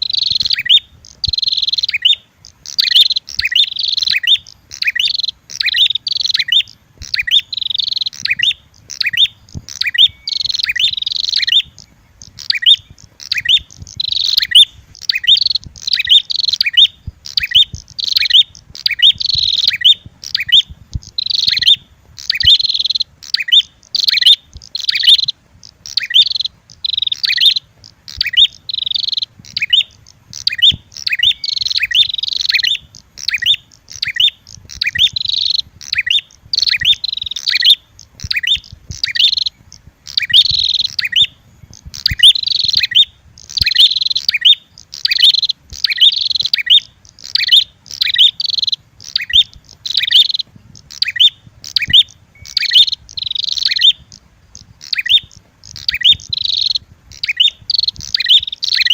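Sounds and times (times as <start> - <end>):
songbirds chirping rapidly: 0.0 - 58.9.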